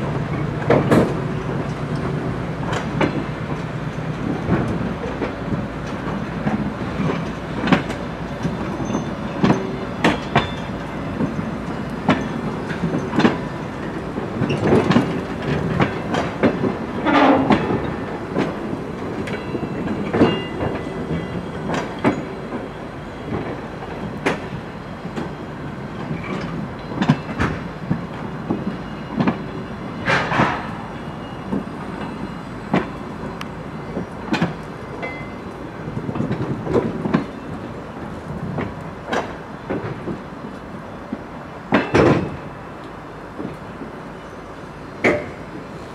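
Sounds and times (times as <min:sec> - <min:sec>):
train wheels clacking over rail joints: 0:00.0 - 0:42.4, 0:45.0 - 0:45.6
train rumble: 0:00.0 - 0:45.9.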